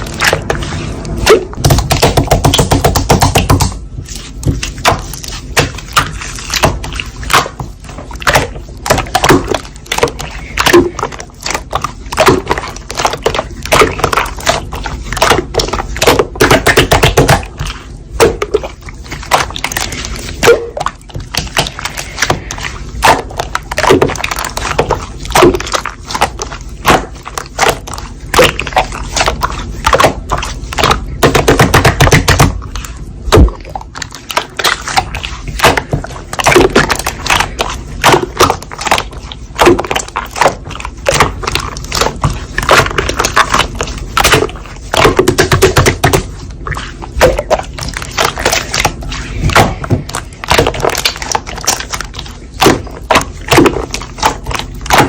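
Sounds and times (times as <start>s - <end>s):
hands squishing slime: 0.0s - 55.0s.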